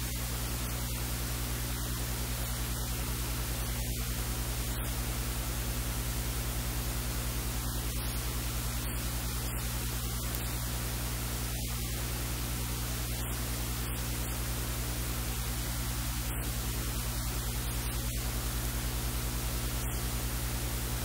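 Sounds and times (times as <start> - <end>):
low electrical hum: 0.0 - 21.0
static-like hiss: 0.0 - 21.0.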